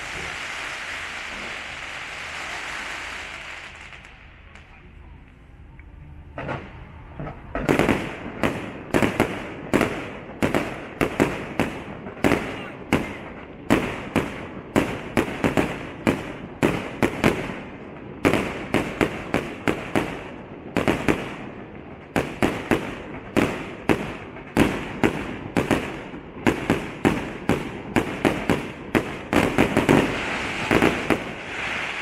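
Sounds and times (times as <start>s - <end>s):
fireworks bursting with sharp bangs: 0.0s - 4.8s, 6.3s - 32.0s
fireworks crackling: 0.0s - 5.4s, 6.4s - 32.0s.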